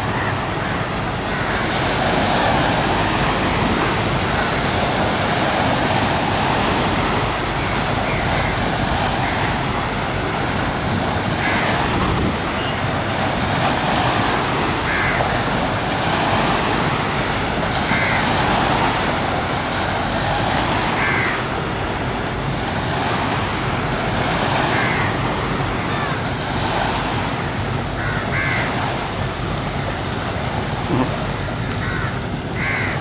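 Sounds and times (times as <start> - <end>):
water washing on shore: 0.0 - 33.0
wind: 0.0 - 33.0.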